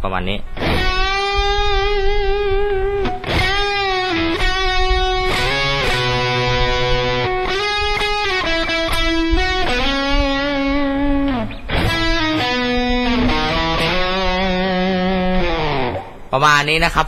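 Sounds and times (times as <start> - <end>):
electric guitar lead melody: 0.5 - 16.3.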